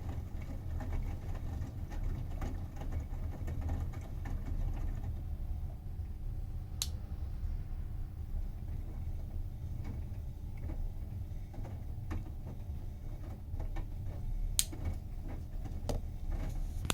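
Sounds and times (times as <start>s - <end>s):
washing machine humming: 0.0s - 16.9s.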